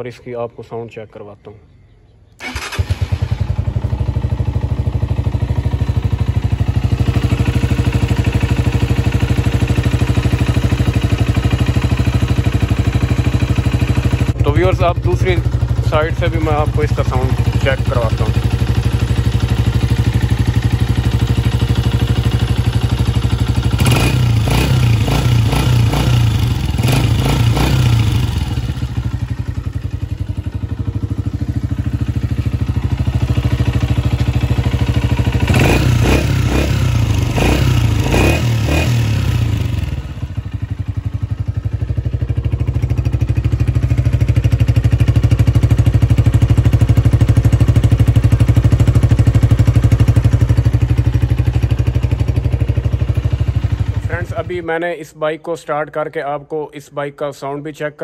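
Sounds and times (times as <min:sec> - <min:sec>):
motorcycle engine idling: 0:01.7 - 0:55.0.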